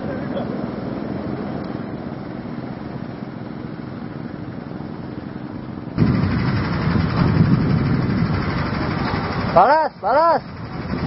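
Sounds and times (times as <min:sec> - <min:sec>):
thresher engine running: 0:00.0 - 0:11.0.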